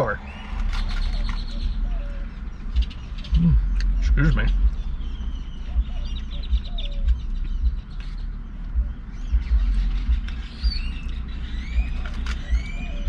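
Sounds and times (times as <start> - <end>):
small birds chirping: 0.0 - 13.0
wind rumbling on microphone: 0.0 - 13.0.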